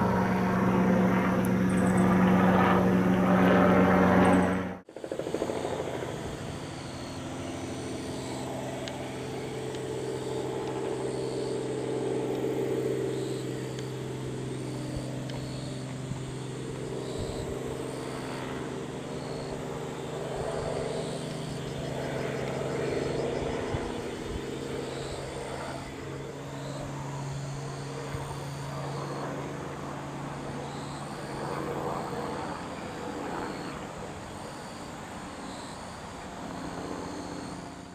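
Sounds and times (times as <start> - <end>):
helicopter engine and rotor drone: 0.0 - 37.9.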